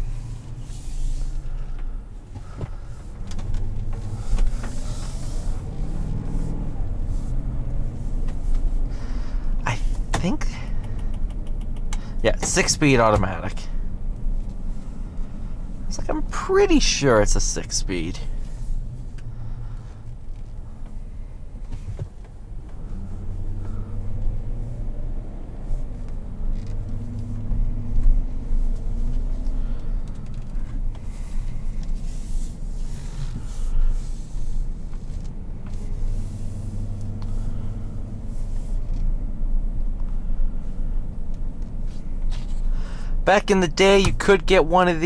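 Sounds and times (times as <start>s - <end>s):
car engine rumble in cabin: 0.0s - 45.0s.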